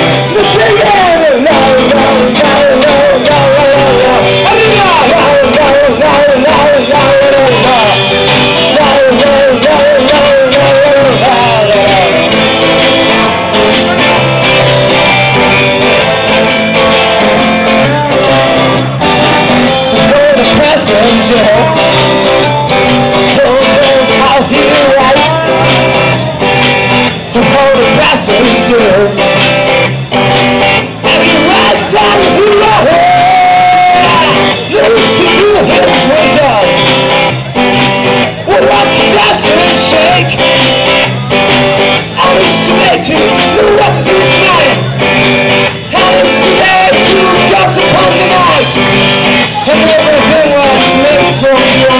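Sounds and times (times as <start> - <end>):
live band playing a song: 0.0 - 51.9
person singing: 0.0 - 51.9.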